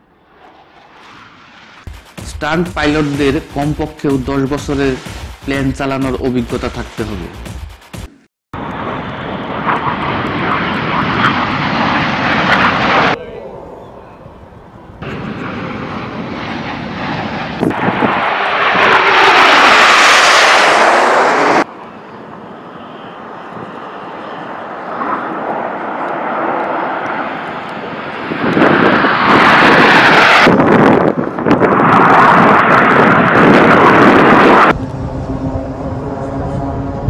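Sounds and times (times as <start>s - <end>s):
airplanes flying past: 0.0s - 37.0s.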